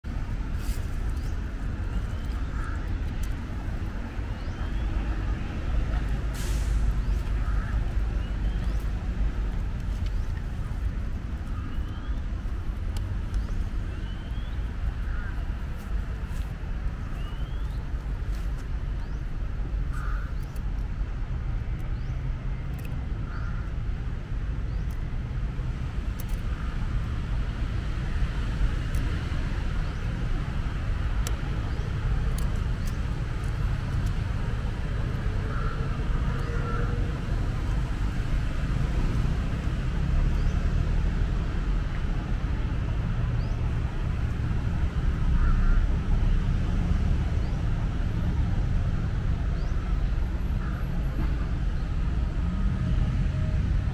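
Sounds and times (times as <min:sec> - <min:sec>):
road traffic rumble: 0:00.0 - 0:53.9.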